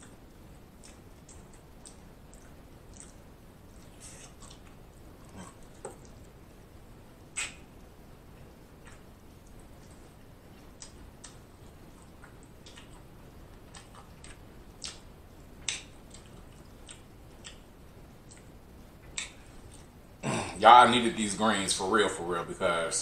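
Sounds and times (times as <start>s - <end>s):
person chewing food: 0.0s - 6.4s, 7.3s - 20.0s.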